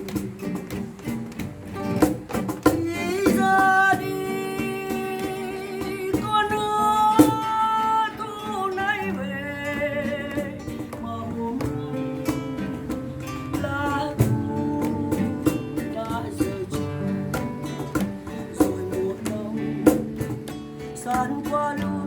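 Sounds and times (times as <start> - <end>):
guitar accompaniment: 0.0 - 22.0.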